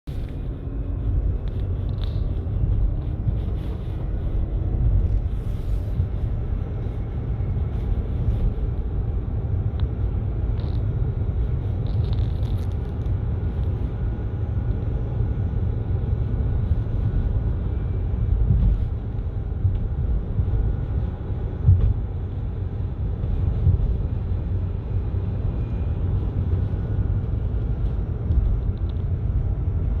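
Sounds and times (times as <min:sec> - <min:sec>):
electric car low rumble: 0:00.0 - 0:30.0.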